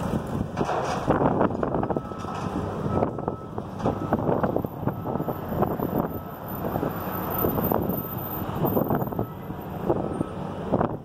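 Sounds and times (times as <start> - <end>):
diesel engines running: 0.0 - 11.0
wind buffeting microphone: 0.0 - 11.0.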